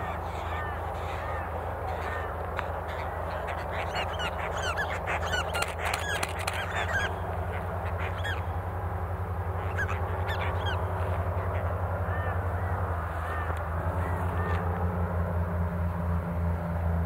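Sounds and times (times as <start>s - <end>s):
birds chirping: 0.0s - 14.8s
diesel locomotives droning: 0.0s - 17.0s.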